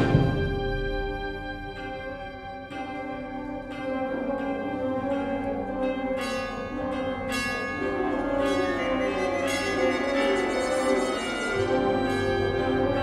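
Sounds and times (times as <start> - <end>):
wind ensemble playing chords: 0.0 - 13.0.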